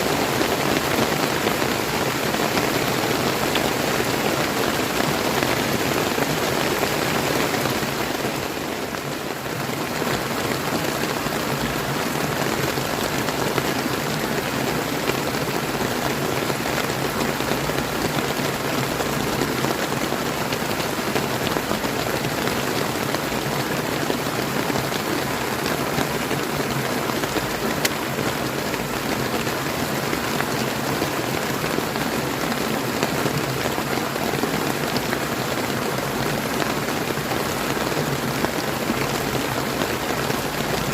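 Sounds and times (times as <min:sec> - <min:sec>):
river water rushing: 0:00.0 - 0:40.9
steady rain falling: 0:00.0 - 0:40.9.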